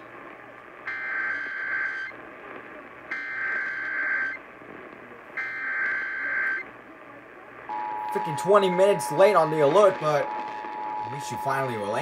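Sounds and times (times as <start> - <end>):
warbling data bursts through radio: 0.0 - 12.0.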